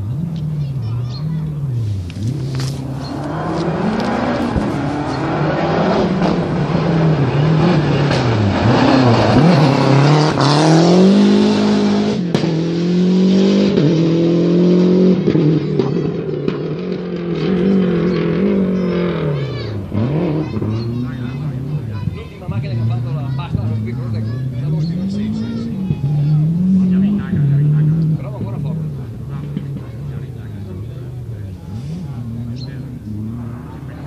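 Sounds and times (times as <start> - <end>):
rally car engine revving: 0.0 - 34.0.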